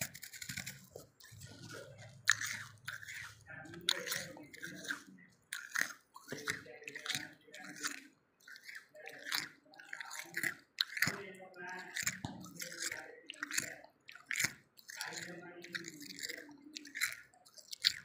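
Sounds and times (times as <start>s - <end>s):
wet crunching of chewed frost: 0.0s - 18.0s.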